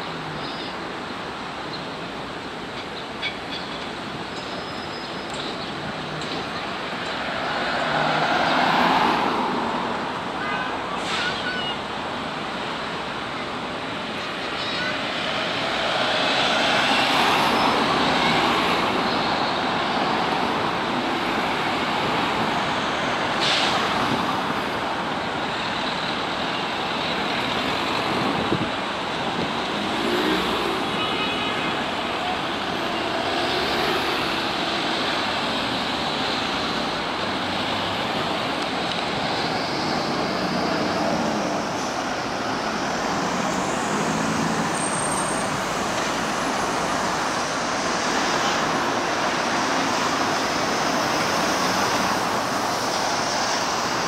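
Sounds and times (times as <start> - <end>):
traffic driving past: 0.0 - 54.0.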